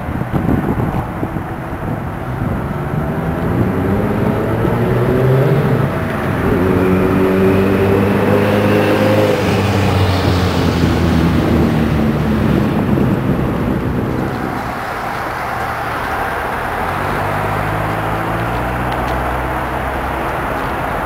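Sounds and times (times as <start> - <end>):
large engine running: 0.1 - 21.0.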